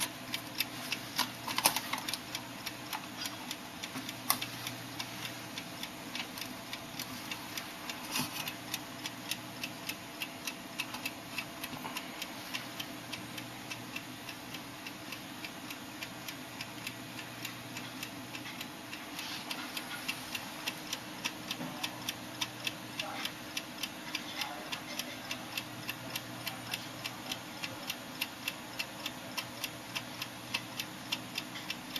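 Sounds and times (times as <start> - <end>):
clock ticking: 0.0 - 31.9.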